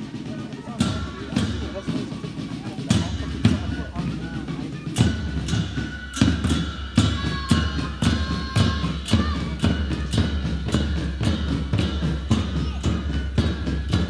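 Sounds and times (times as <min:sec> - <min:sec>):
drum beating march time: 0:00.0 - 0:14.0.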